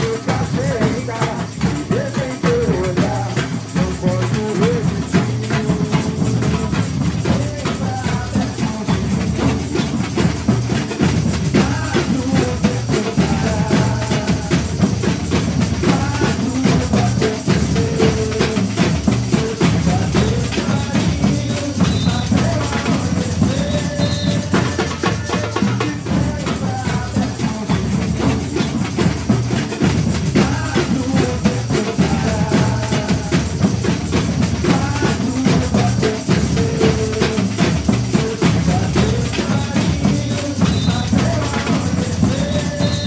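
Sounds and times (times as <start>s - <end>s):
bass drums: 0.0s - 43.0s
snare drums: 0.0s - 43.0s.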